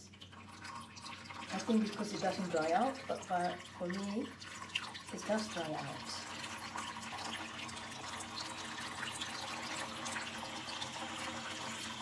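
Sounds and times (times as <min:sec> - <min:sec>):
tap water running: 0:00.0 - 0:12.0
water splashing into metal sink: 0:00.0 - 0:12.0.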